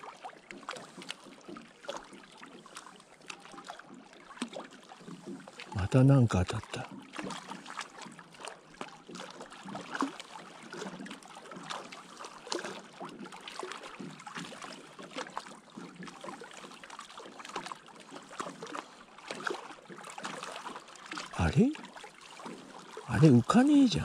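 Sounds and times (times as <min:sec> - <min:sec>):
small waves lapping: 0:00.0 - 0:24.0.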